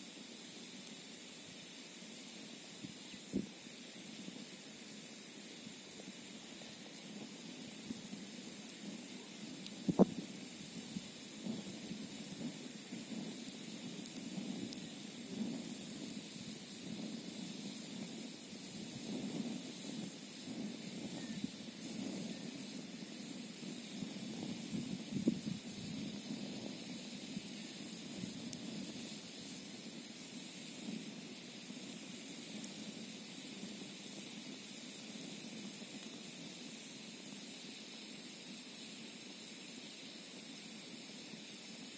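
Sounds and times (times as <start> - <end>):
campfire flames rumbling: 0.0 - 41.9
fire crackles: 0.0 - 41.9
steady high hiss: 0.0 - 41.9.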